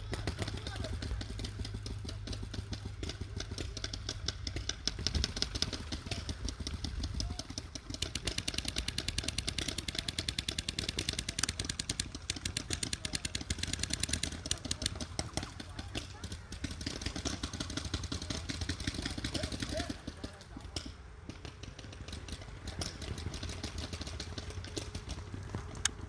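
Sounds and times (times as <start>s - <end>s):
paintball markers firing: 0.0s - 26.0s.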